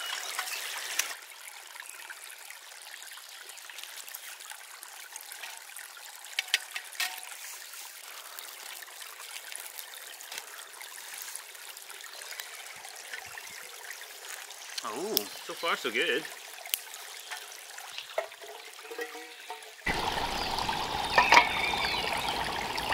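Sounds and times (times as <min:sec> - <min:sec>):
stream trickling: 0:00.0 - 0:22.9.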